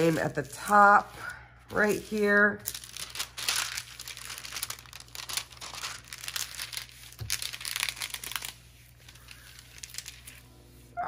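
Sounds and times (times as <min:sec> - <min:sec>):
plastic film crinkling: 0:00.0 - 0:11.0.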